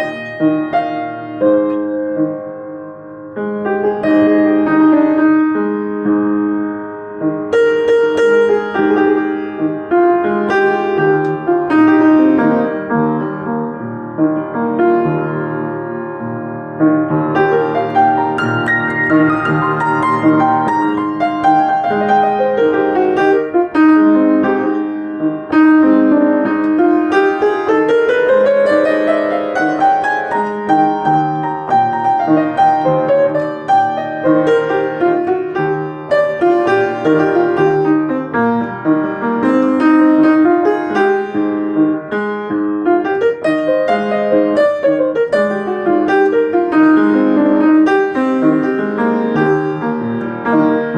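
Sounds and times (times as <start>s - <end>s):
solo piano playing: 0.0s - 50.9s.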